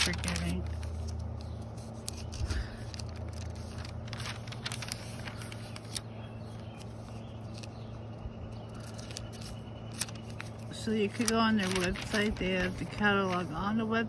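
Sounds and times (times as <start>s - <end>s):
crisp paper clicks: 0.0s - 7.9s, 8.6s - 13.4s
paper pages rustling: 0.0s - 8.0s, 8.6s - 13.9s
low background hum: 0.0s - 14.0s.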